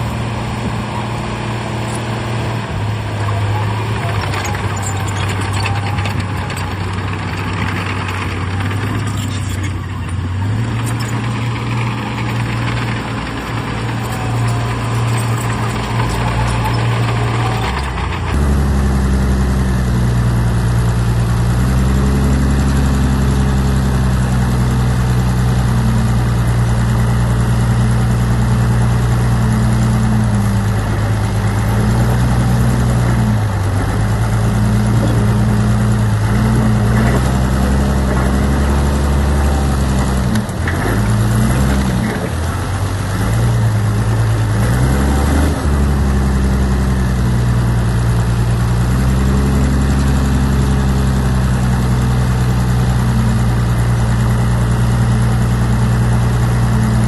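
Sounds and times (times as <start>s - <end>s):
diesel machinery engine running: 0.0s - 57.0s.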